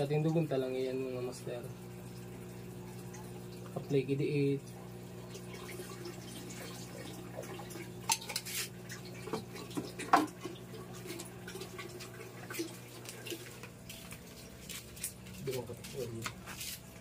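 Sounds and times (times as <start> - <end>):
steady electric hum: 0.0 - 17.0
water bubbling and trickling: 1.3 - 15.8.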